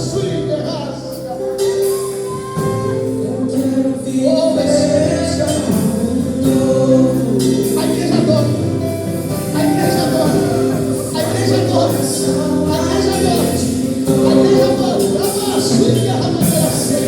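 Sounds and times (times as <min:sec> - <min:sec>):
gospel choir singing: 0:00.0 - 0:17.0
instrumental accompaniment: 0:00.0 - 0:17.0.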